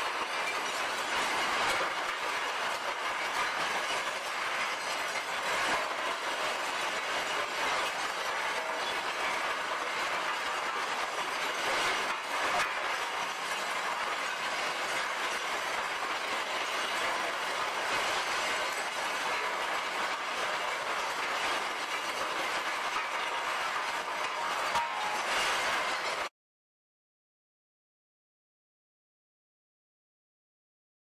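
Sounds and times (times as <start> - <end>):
metal clattering in rotating drum: 0.0 - 26.3.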